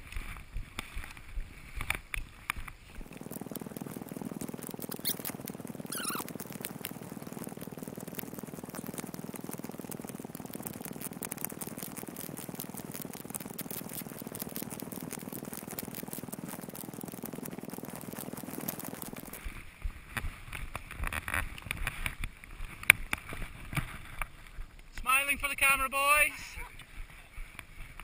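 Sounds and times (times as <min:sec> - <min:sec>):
skis crunching in snow: 0:00.0 - 0:28.0.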